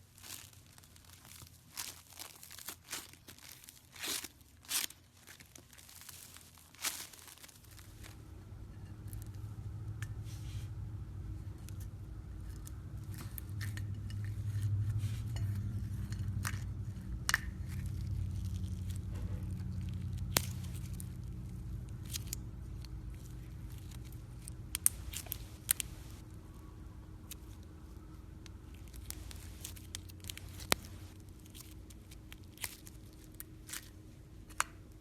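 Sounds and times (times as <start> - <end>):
slime squishing: 0.0 - 35.0.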